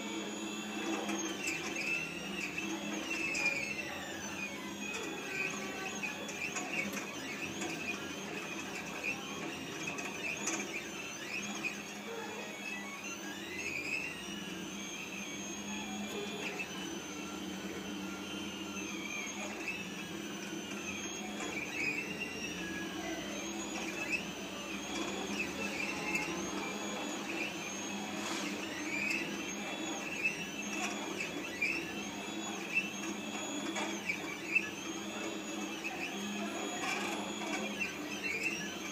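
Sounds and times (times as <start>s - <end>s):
machine motors whining: 0.0s - 38.9s.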